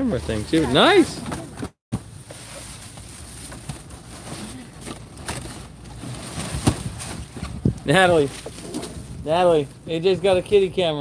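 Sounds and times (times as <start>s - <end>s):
outdoor background noise: 0.0s - 11.0s
rustling boxes and plastic bags: 0.0s - 11.0s.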